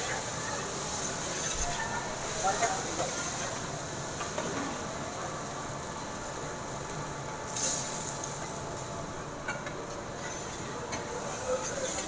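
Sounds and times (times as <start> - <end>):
food hissing on a stove: 0.0 - 9.0, 10.1 - 12.0.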